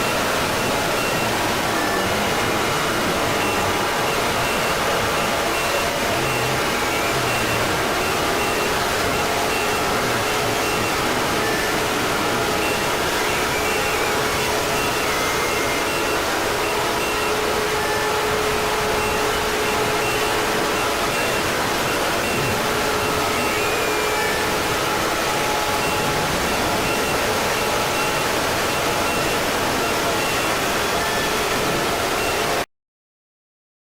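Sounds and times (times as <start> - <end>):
layered alarm tones: 0.0 - 32.6
short high beeps: 0.0 - 32.6
distorted wall of noise: 0.0 - 32.7.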